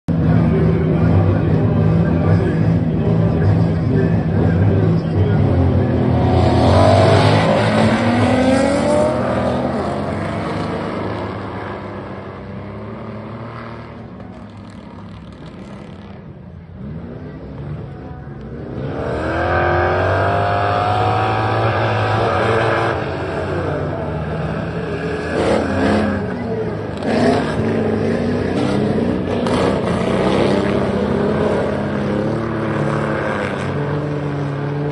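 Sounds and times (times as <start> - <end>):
race car engines revving: 0.1 - 34.9.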